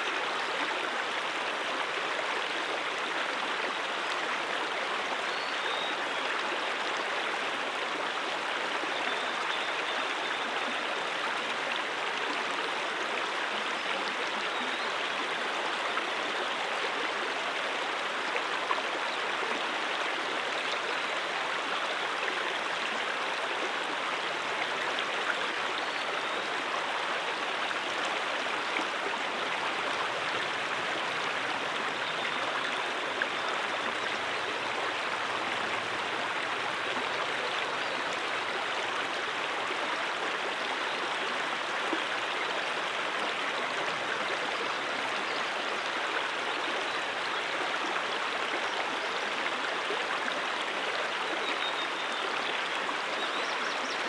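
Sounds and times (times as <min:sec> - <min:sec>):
stream water running over rocks: 0:00.0 - 0:54.0.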